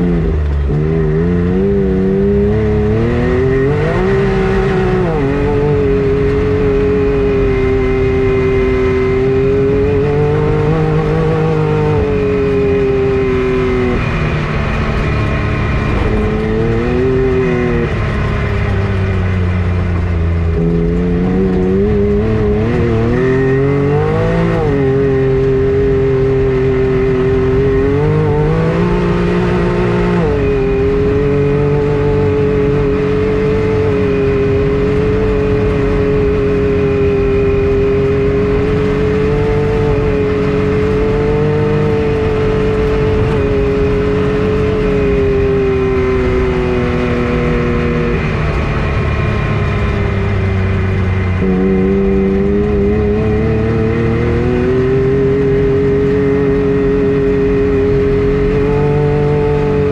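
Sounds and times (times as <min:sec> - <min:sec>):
vehicle engine whining: 0:00.0 - 0:59.9.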